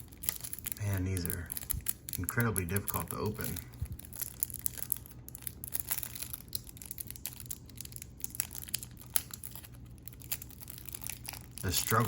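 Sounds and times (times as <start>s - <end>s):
faint low hum: 0.0s - 12.0s
plastic wrapping crinkling: 0.0s - 12.0s.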